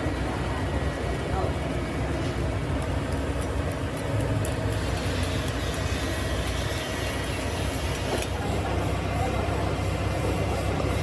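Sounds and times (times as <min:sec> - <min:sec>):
machinery rumble and hum: 0:00.0 - 0:11.0.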